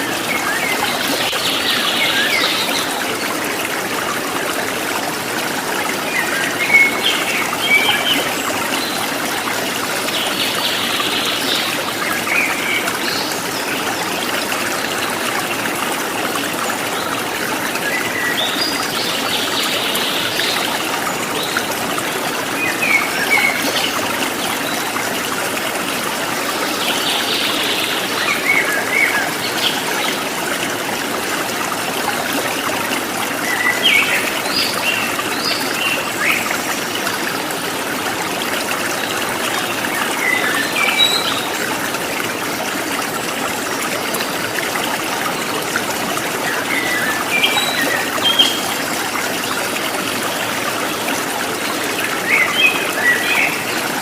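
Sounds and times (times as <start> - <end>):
stream water trickling: 0.0 - 54.0.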